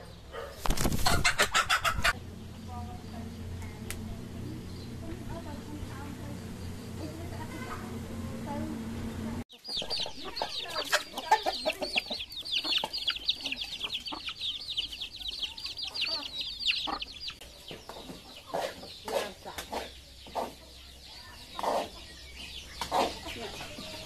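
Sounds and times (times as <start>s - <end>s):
chicks peeping: 0.0s - 24.0s
hen clucking: 0.0s - 24.0s.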